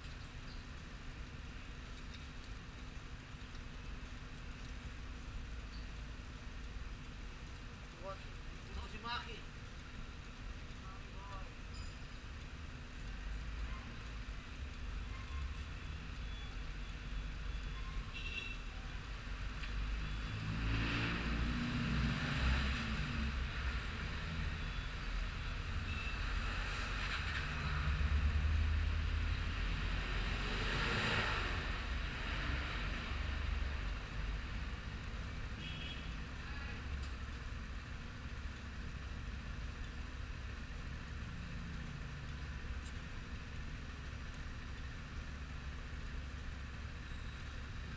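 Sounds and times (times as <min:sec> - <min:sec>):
road vehicles passing by: 0:00.0 - 0:47.9.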